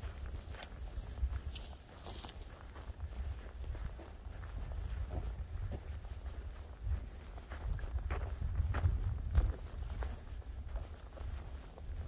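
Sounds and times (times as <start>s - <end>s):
footsteps on a trail: 0.0s - 12.0s
steady low rumble: 0.0s - 12.0s.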